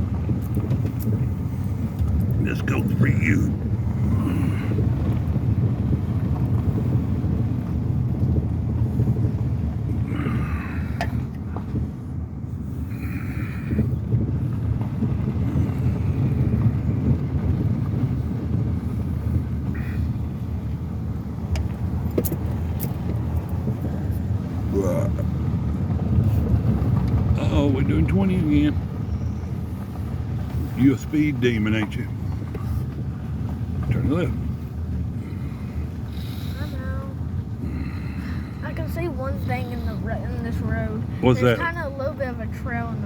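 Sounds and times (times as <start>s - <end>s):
truck engine and tyre noise: 0.0s - 43.0s.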